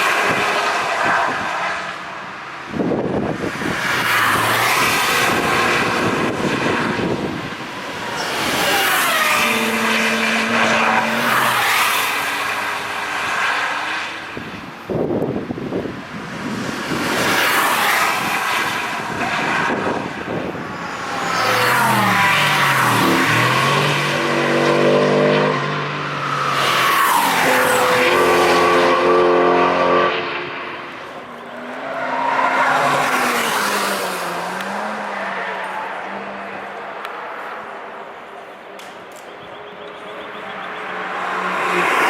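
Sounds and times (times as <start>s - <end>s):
race cars passing at speed: 0.0s - 42.0s.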